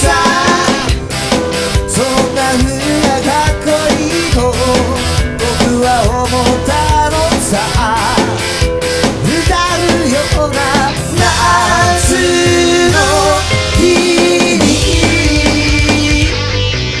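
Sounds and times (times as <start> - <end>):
person singing: 0.0 - 1.0, 1.9 - 8.6, 9.2 - 16.4
drums: 0.0 - 17.0
rock guitar: 0.0 - 17.0.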